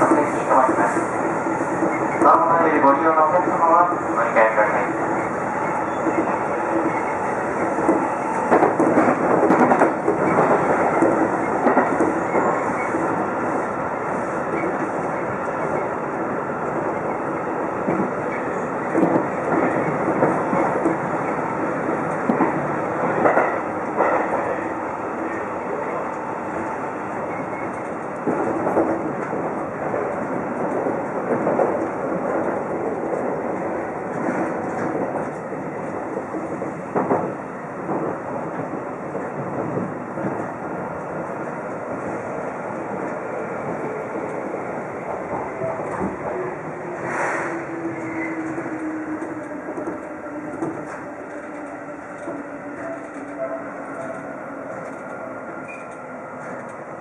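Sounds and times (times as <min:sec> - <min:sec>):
train wheel-on-rail running noise: 0:00.0 - 0:57.0.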